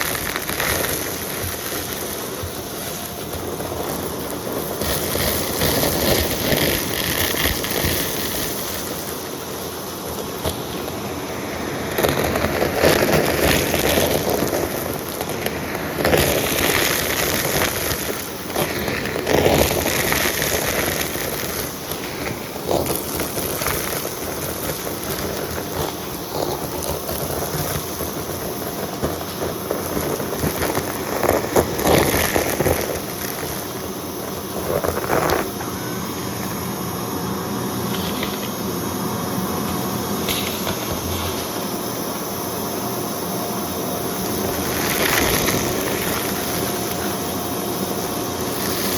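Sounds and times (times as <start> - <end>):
vacuum cleaner sucking debris: 0.0 - 48.9.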